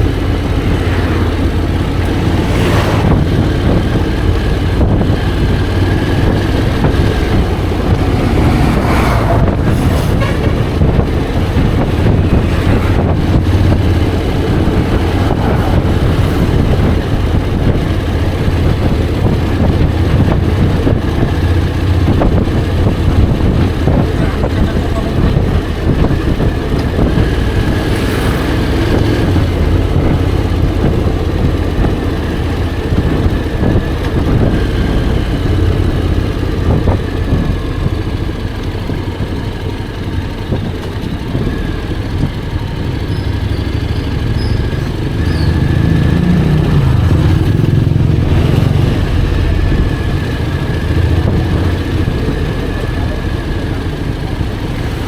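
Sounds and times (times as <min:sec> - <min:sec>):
wind noise: 0:00.0 - 0:54.4
motorcycle engine running: 0:00.0 - 0:55.0
road noise: 0:00.0 - 0:55.0.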